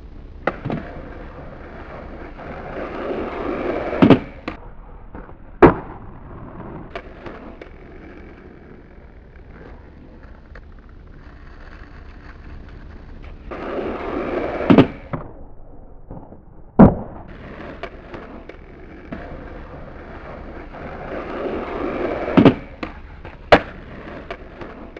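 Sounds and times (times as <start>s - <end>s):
skateboard wheels rolling on asphalt: 0.0s - 24.9s
skateboard clacking: 0.4s - 15.2s, 16.8s - 24.9s
skateboard smacking the ground: 0.4s - 15.4s, 16.0s - 24.9s.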